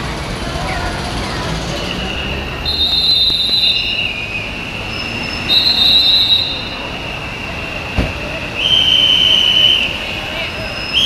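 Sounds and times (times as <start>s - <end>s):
tram wheels squealing on rails: 0.6s - 11.0s.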